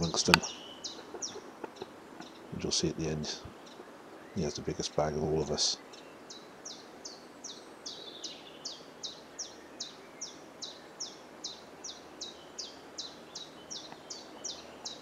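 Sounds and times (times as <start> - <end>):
faint outdoor background noise: 0.0 - 15.0
small bird calling: 0.0 - 15.0.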